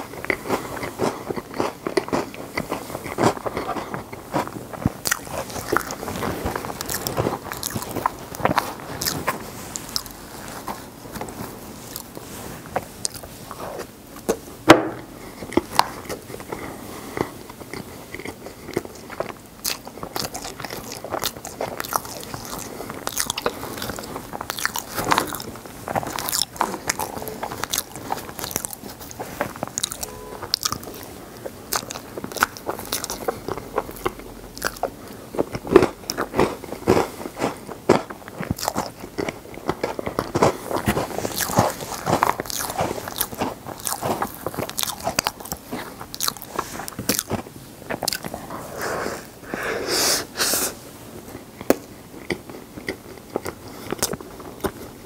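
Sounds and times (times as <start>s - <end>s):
chewing and crunching: 0.0s - 49.4s, 51.2s - 55.0s.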